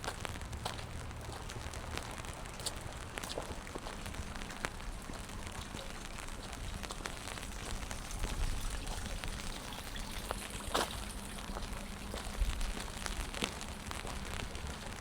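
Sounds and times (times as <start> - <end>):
rain on wet pavement: 0.0 - 15.0.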